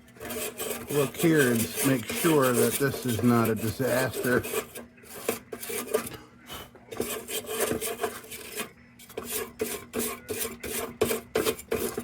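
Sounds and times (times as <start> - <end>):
scraping on sheet metal: 0.0 - 6.1, 6.9 - 12.0.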